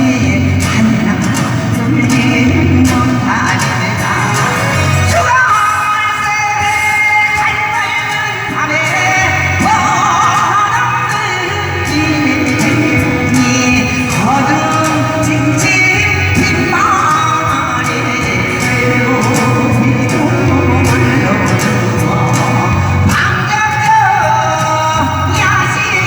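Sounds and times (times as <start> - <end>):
backing music: 0.0 - 26.0
woman singing folk song: 0.0 - 26.0.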